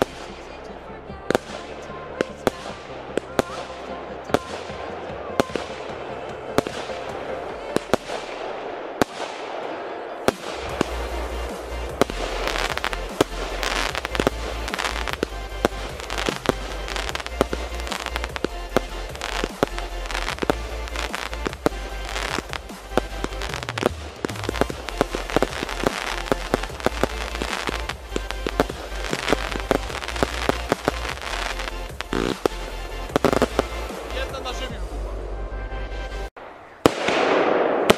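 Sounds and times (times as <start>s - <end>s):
fireworks crackle: 0.0s - 34.8s, 36.4s - 37.9s
fireworks bangs: 0.0s - 35.0s, 36.3s - 37.9s.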